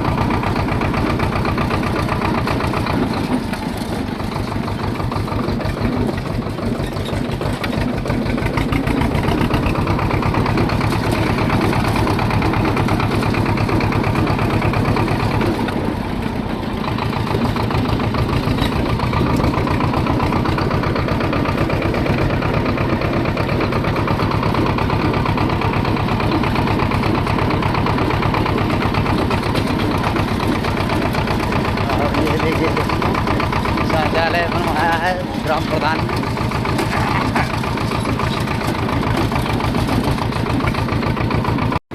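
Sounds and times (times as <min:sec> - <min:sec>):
tractor diesel engine chugging: 0:00.0 - 0:41.9.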